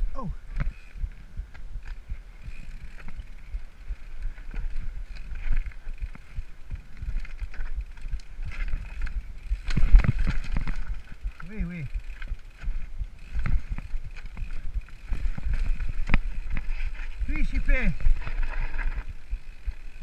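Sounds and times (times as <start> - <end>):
wind rumble on microphone: 0.0 - 20.0
bike rattling over rocks: 0.4 - 20.0.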